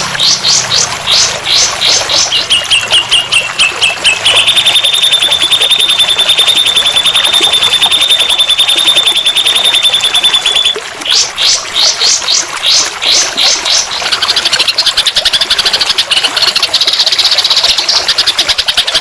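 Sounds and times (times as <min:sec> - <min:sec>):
rapid high bird trill: 0:00.0 - 0:19.0
songbird singing: 0:00.0 - 0:19.0.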